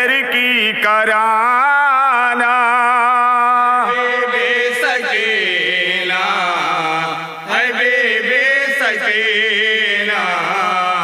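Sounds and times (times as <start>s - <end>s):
man chanting a lament: 0.0s - 11.0s.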